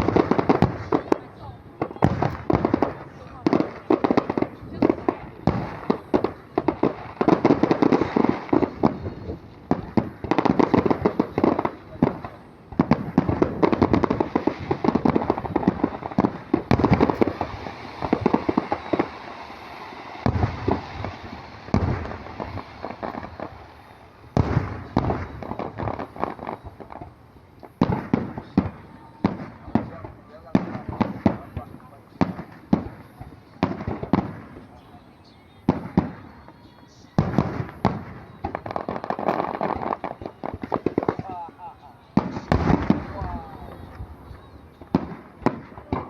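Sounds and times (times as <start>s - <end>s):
fireworks cracks and bangs: 0.0s - 46.0s.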